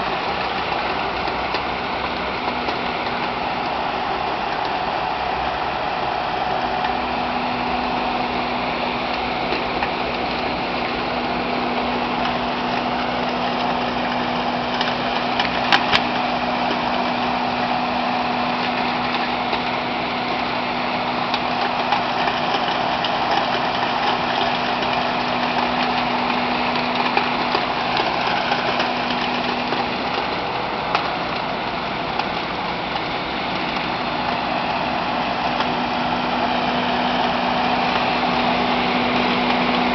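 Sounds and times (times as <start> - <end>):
loader running: 0.0 - 39.9.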